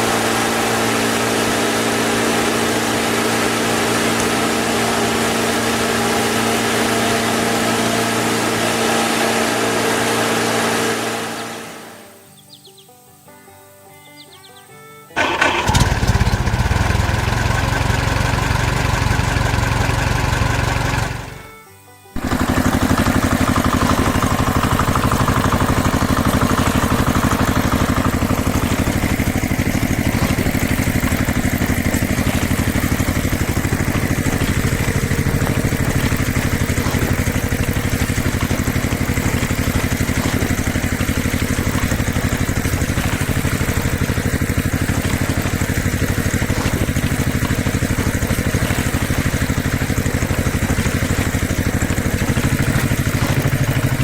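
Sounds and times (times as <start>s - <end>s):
motor pulsing steadily: 0.0s - 12.2s, 15.7s - 21.5s, 22.2s - 54.0s.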